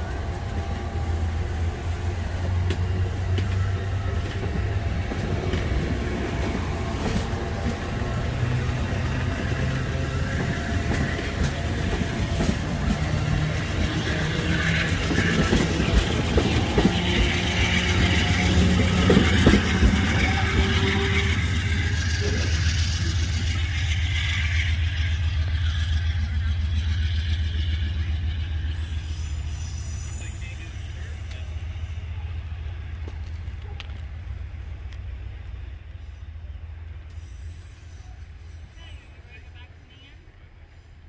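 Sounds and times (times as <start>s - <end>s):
sharp clicks of train wheels: 0.0s - 36.1s
freight train rumbling past: 0.0s - 41.0s.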